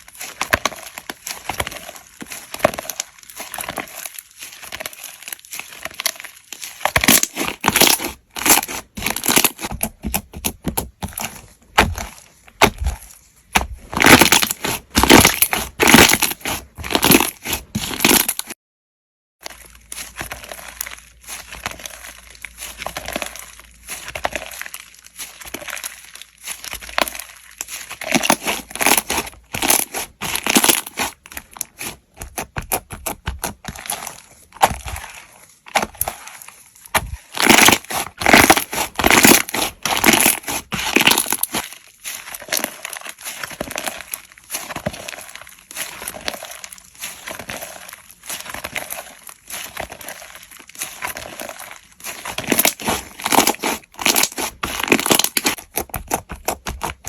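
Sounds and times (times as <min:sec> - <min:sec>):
slime squished by hand: 0:00.0 - 0:18.6, 0:19.4 - 0:57.0.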